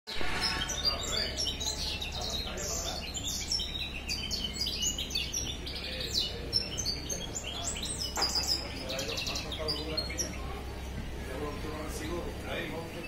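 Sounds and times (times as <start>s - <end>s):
songbirds chirping and trilling: 0.1s - 13.0s.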